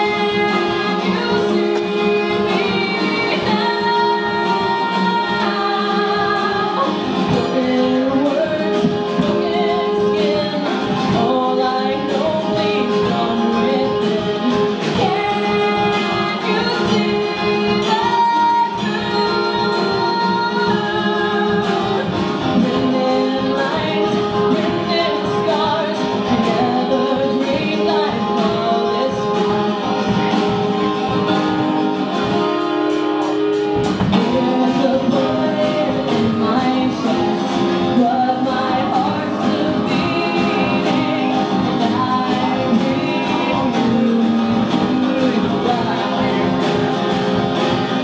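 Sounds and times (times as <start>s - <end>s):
woman singing: 0.0s - 32.5s, 33.8s - 48.0s
strummed acoustic guitar: 0.0s - 48.0s.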